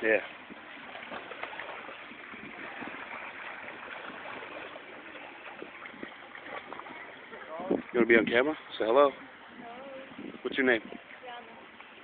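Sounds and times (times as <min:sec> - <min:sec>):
pool water lapping and splashing: 0:00.0 - 0:12.0.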